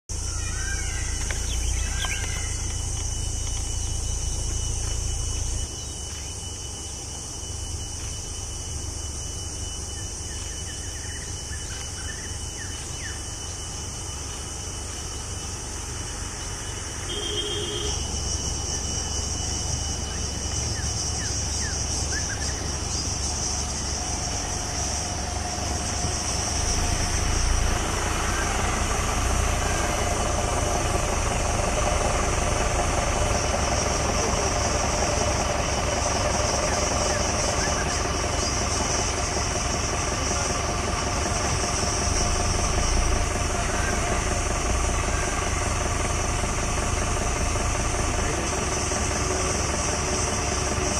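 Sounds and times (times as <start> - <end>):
high-pitched hiss: 0.1 - 50.9
motorcycle engine idling: 0.1 - 50.9.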